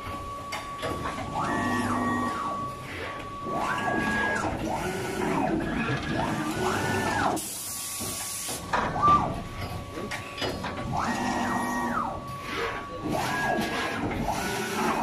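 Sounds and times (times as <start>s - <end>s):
machine motors whining: 0.2s - 15.0s.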